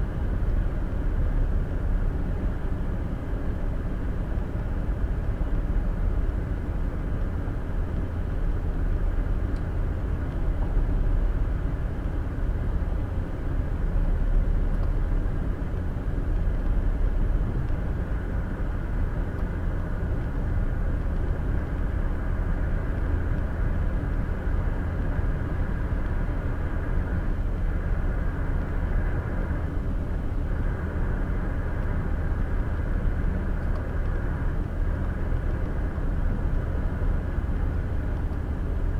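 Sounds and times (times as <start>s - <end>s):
car road and tyre noise: 0.0s - 38.9s.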